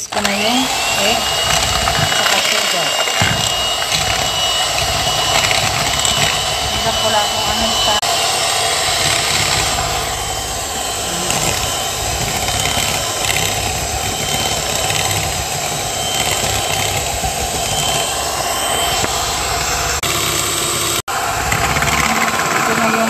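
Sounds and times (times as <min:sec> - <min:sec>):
electric hand mixer whisking: 0:00.0 - 0:23.0.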